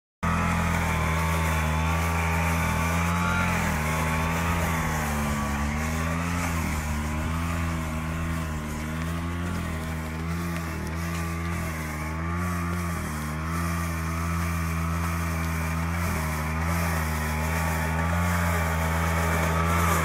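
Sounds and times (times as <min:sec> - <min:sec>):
rotary brush sweeping paving: 0:00.2 - 0:20.0
tractor engine running: 0:00.2 - 0:20.0.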